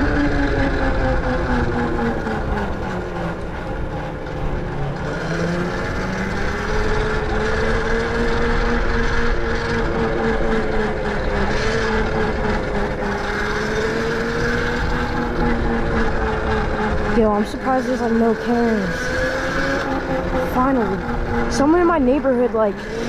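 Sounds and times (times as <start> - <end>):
electric motor whine: 0.0 - 23.0.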